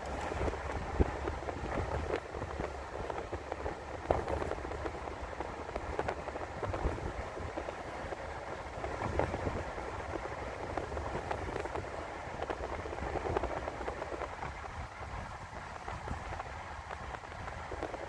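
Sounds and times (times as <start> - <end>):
car road and tyre noise: 0.0 - 18.0.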